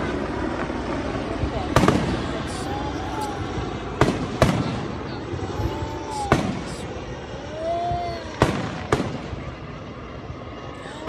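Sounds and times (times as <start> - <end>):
fireworks bursting: 1.4 - 10.4.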